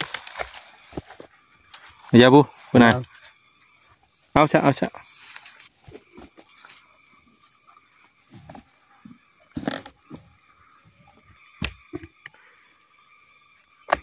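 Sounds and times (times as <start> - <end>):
faint steady high hum: 0.0 - 14.0.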